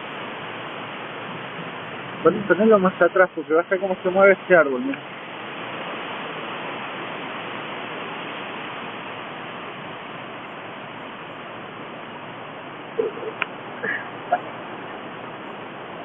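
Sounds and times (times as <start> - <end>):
storm wind through trees: 0.0 - 16.0.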